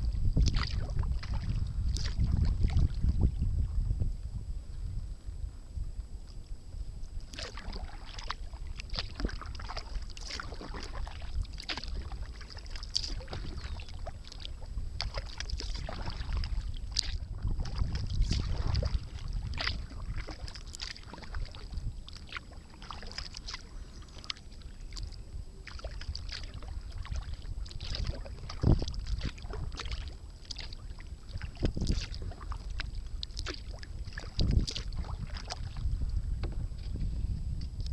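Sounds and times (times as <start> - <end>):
paddle water splashing: 0.0 - 4.0, 4.6 - 37.9
wind on microphone: 0.0 - 37.9.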